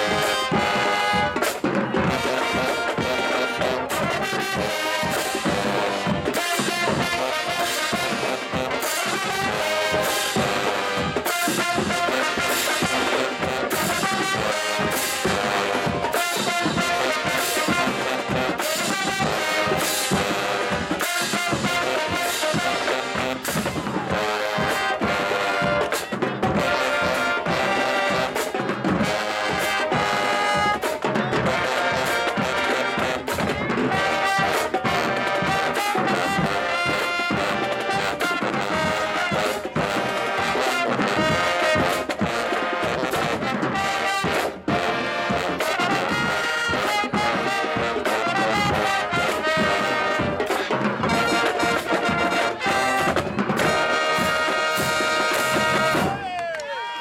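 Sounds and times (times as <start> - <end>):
trombones and trumpets playing: 0.0 - 56.3
marching drums: 0.0 - 56.5.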